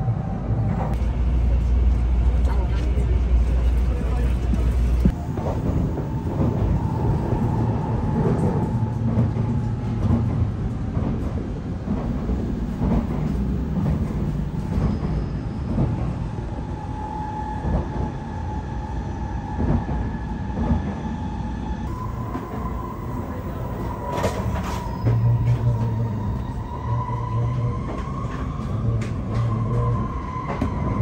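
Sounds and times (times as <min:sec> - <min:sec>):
train running rumble: 0:00.0 - 0:21.0, 0:21.7 - 0:31.0.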